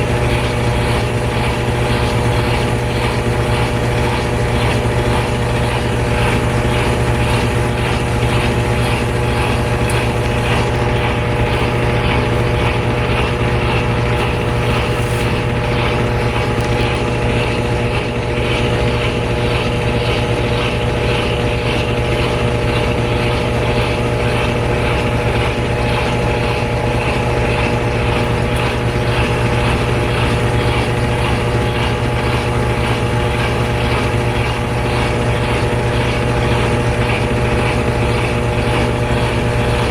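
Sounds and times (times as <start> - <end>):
washer drum spinning: 0.0 - 39.9.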